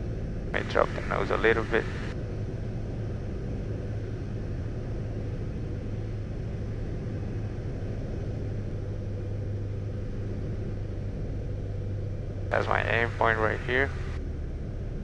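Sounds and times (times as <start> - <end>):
airflow: 0.0 - 15.0
airplane engine drone: 0.0 - 15.0.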